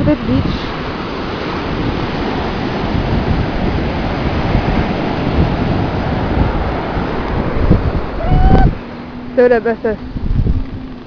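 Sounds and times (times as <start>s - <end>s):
surf: 0.0s - 11.0s
wind buffeting microphone: 0.0s - 11.0s.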